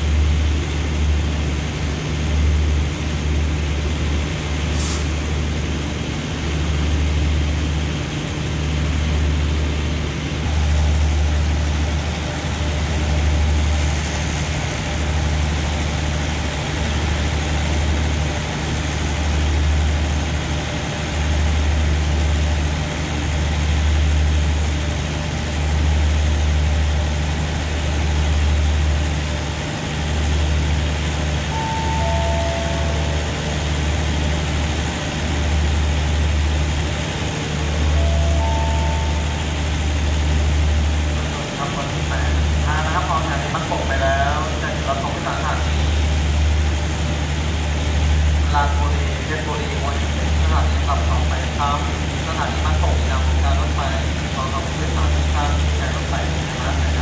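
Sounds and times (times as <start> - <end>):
diesel train idling: 0.0 - 57.0.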